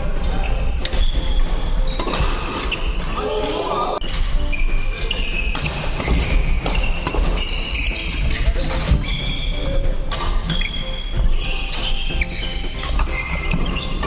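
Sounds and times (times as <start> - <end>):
footfalls: 0.0 - 14.0
racquet hitting shuttlecock: 0.0 - 14.0
sneaker squeaks on court floor: 0.2 - 14.0.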